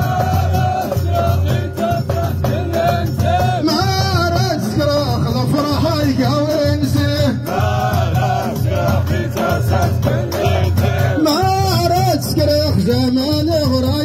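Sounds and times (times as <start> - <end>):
men chanting together: 0.0 - 12.3
frame drums beating: 0.0 - 14.0
jangling rattling percussion: 0.0 - 14.0.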